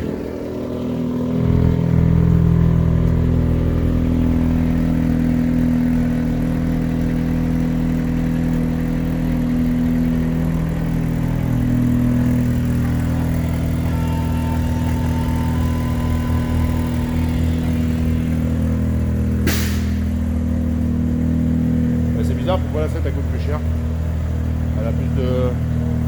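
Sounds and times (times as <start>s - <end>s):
rotary engine idling: 0.0s - 26.0s.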